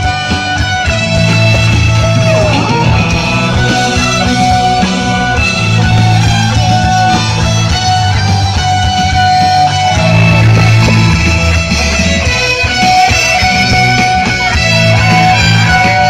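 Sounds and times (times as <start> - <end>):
bass line: 0.0 - 16.0
electric guitar: 0.0 - 16.0
violin: 0.0 - 16.0.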